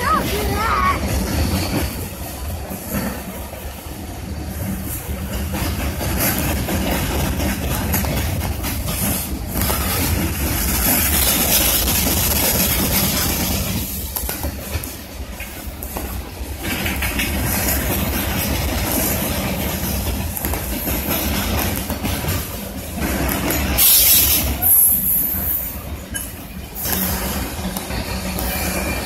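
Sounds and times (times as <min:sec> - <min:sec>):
rail clacks: 0:00.0 - 0:29.0
steel wheels rolling on rail: 0:00.0 - 0:29.0.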